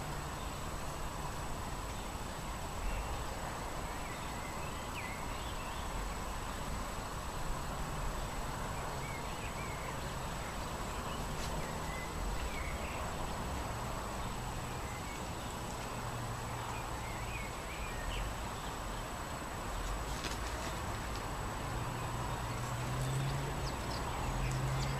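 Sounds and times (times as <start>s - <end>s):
wind with low rumble: 0.0s - 24.9s.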